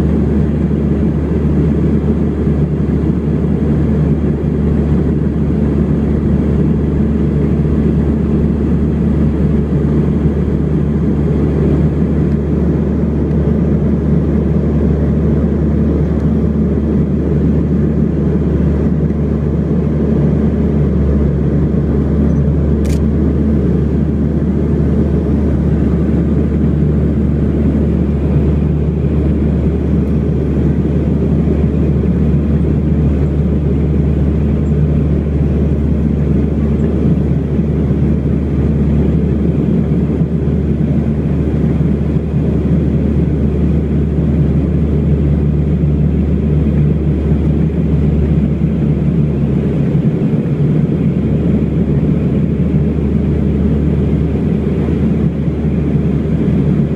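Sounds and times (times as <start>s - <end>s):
turboprop cabin drone: 0.0s - 56.9s.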